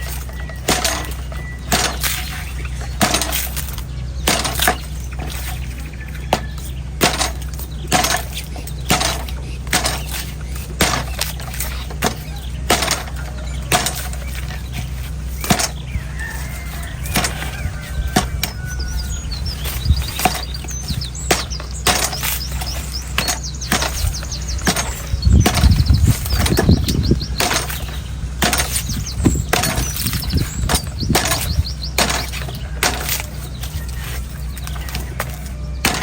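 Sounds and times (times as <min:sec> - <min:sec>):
knife chopping coconut husk: 0:00.0 - 0:36.0
low hum: 0:00.0 - 0:36.0.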